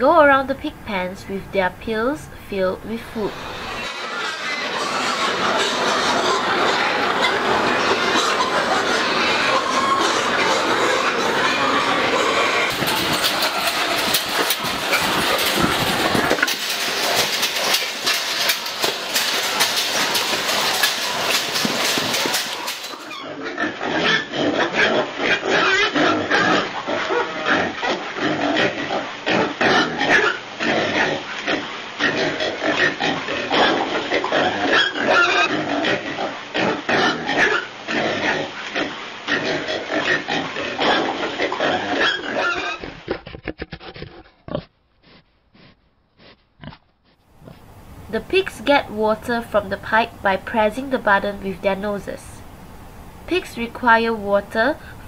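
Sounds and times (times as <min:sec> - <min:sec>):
din of many pigs: 0:00.0 - 0:46.8, 0:47.4 - 0:52.5
pigs grunting: 0:03.2 - 0:47.7.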